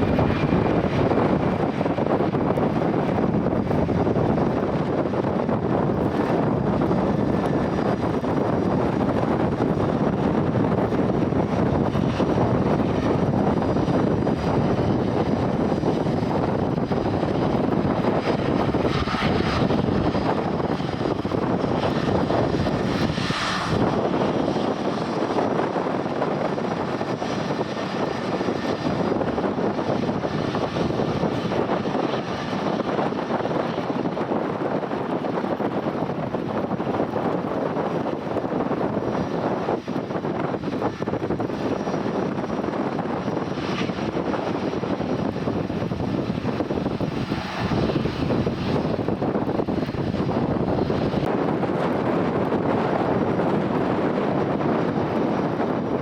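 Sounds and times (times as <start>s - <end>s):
airliner engines rushing: 0.0s - 56.0s.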